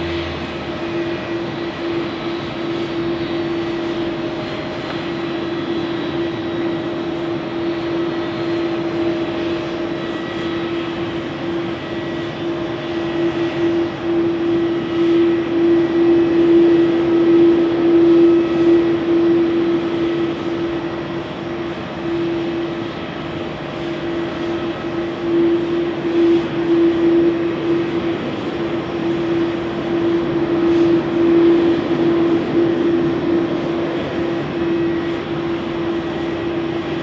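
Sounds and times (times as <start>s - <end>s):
constant low hum: 0.0s - 37.0s
jet engine noise: 0.0s - 37.0s.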